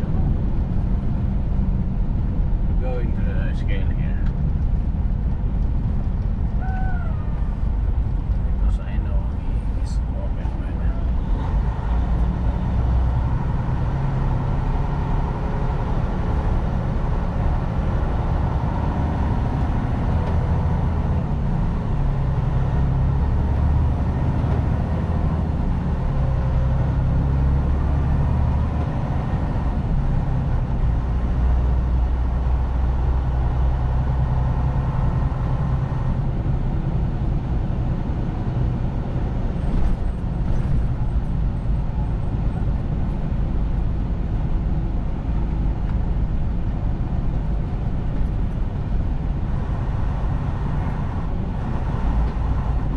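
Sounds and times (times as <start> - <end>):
diesel truck engine driving: 0.0 - 52.9
road noise: 0.0 - 52.9.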